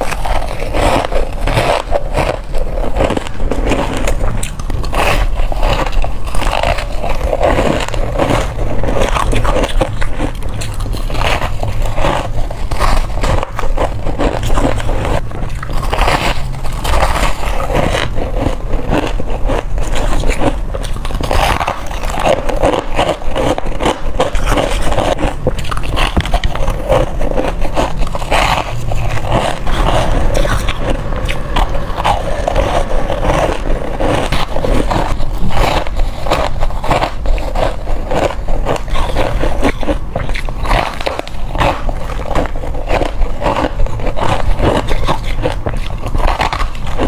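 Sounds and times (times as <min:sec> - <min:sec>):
crushed ice being chewed: 0:00.0 - 0:47.0.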